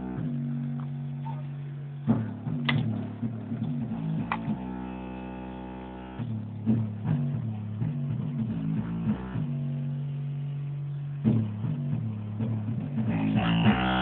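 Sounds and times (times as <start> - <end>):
guitar music on car stereo: 0.0 - 14.0.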